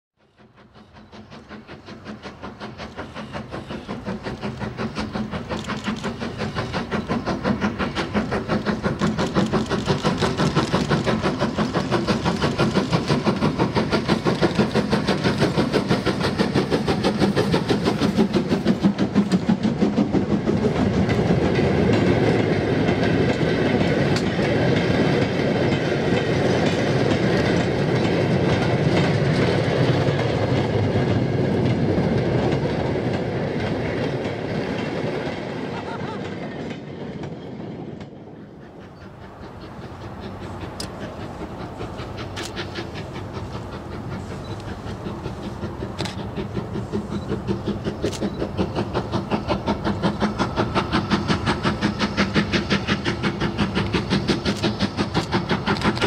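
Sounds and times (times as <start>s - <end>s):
steam locomotive chuffing: 0.2s - 56.0s
freight wagons clattering on rails: 1.8s - 56.0s.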